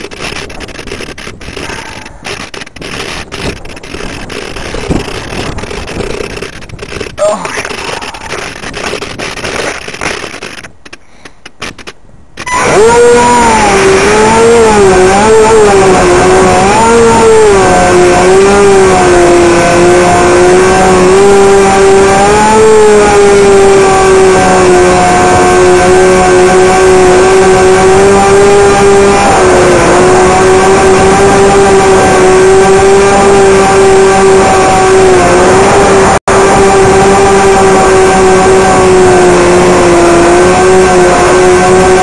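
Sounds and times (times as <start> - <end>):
rc plane motor whining: 0.0 - 10.7, 11.6 - 42.0
rushing wind: 0.0 - 42.0.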